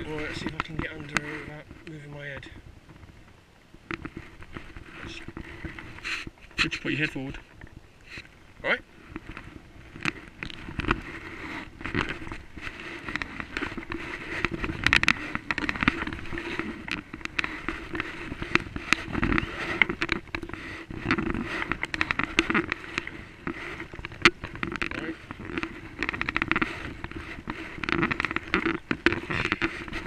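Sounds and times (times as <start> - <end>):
small clicks and knocks: 0.0 - 8.3, 9.1 - 30.0.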